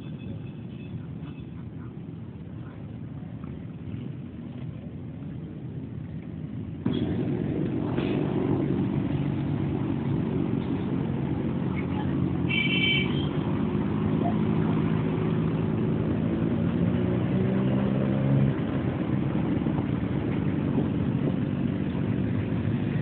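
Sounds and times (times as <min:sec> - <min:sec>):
motorcycle and scooter engines: 0:00.0 - 0:23.0
road and wind noise: 0:00.0 - 0:23.0
steady engine hum: 0:00.0 - 0:23.0.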